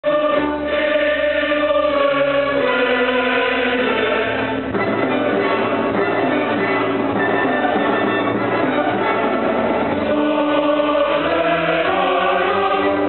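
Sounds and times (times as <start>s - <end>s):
choir and orchestra sustained chords: 0.0s - 13.0s.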